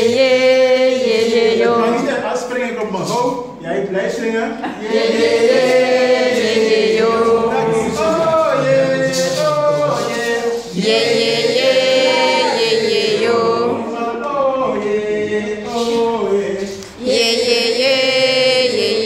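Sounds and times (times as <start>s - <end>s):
voices singing a chant: 0.0s - 2.8s, 4.6s - 19.0s.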